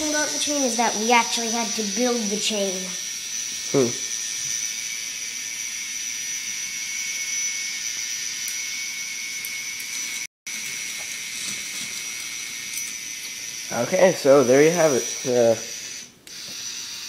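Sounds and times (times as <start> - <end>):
toy motor whine: 0.0 - 17.0.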